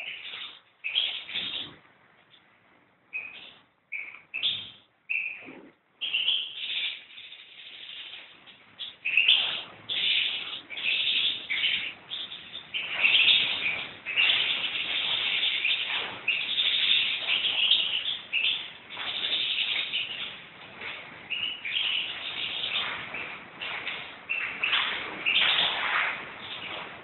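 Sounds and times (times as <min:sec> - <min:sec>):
goldfinch singing: 0:00.0 - 0:01.8, 0:03.1 - 0:27.0.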